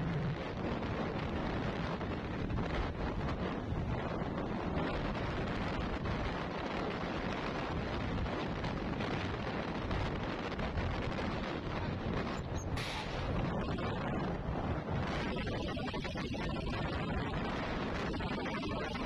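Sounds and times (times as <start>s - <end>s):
vehicle road noise: 0.0s - 19.0s
wind rumble on microphone: 0.0s - 19.0s.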